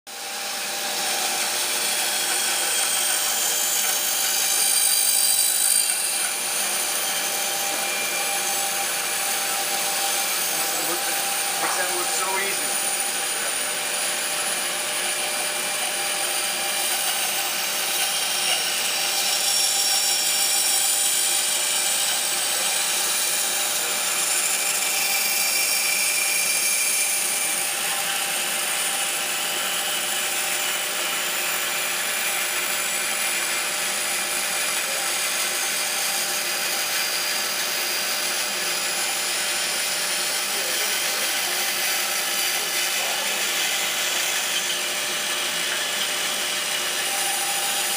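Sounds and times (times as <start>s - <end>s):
bandsaw cutting wood: 0.1s - 47.9s.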